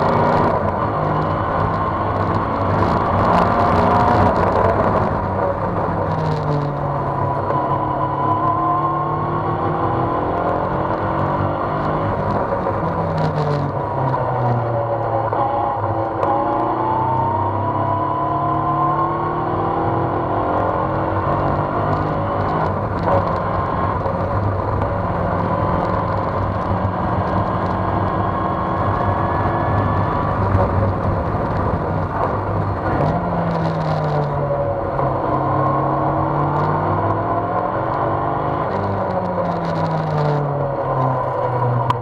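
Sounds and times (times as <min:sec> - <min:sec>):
sports car engine revving: 0:00.0 - 0:42.0.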